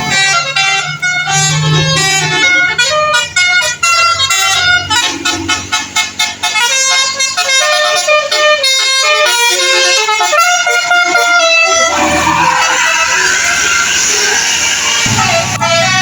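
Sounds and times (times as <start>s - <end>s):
multi-tone bus horn melody: 0.0s - 16.0s.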